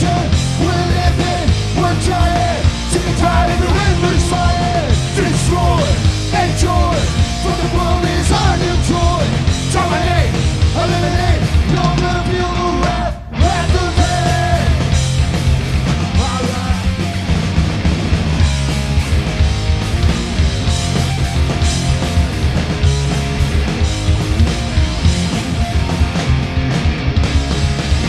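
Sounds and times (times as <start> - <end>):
punk rock band playing: 0.0 - 28.0.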